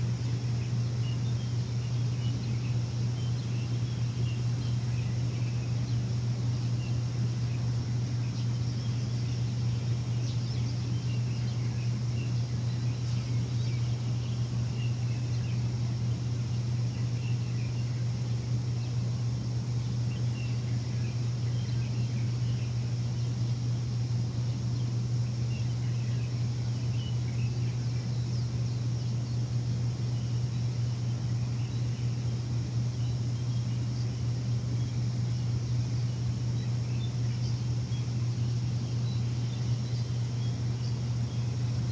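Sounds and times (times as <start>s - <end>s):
faint bird chirps: 0.0s - 41.9s
low machine hum: 0.0s - 41.9s.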